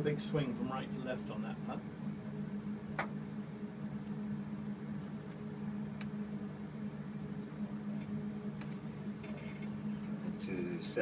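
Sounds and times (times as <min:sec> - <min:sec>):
equipment and ventilation hum: 0:00.0 - 0:11.0.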